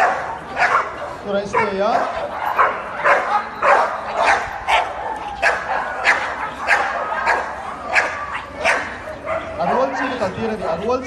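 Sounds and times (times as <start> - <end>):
dog barking: 0.0 - 10.1.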